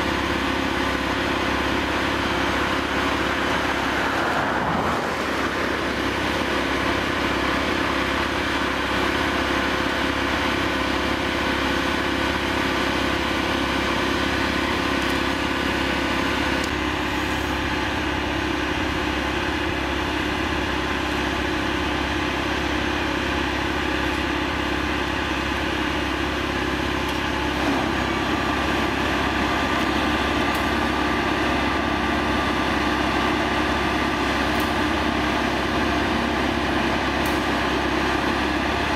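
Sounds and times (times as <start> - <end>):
machine engine hum: 0.0 - 38.9.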